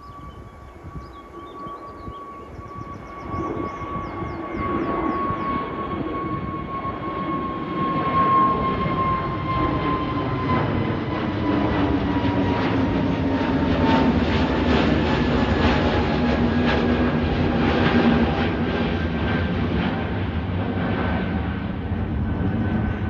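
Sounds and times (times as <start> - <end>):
jet engines roaring: 0.1 - 23.0.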